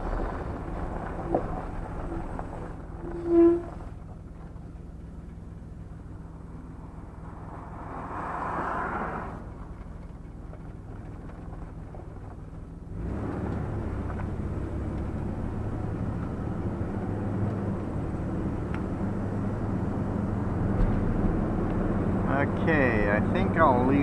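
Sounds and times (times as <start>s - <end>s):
vehicle engine and road noise: 0.0s - 24.0s.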